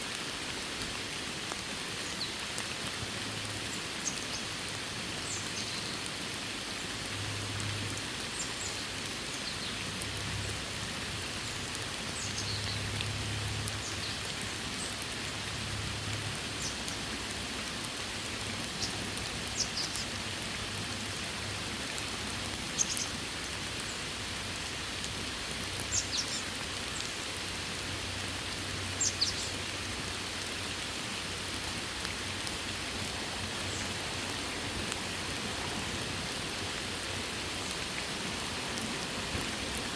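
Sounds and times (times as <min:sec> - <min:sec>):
sharp high raindrop ticks: 0:00.0 - 0:39.9
steady rain hiss: 0:00.0 - 0:39.9.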